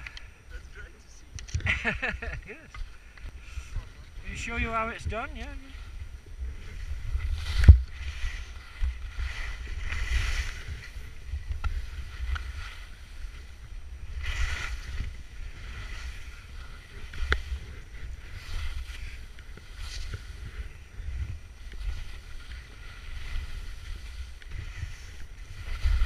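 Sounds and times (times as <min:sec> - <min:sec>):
wind buffeting microphone: 0:00.0 - 0:26.0
skis scraping through snow: 0:01.7 - 0:26.0.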